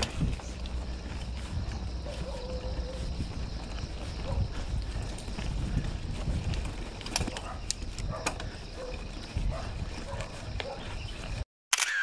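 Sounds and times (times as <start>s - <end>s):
bike clicking and rattling: 0.0s - 11.4s
bike tyres rumbling on stones: 0.0s - 11.4s.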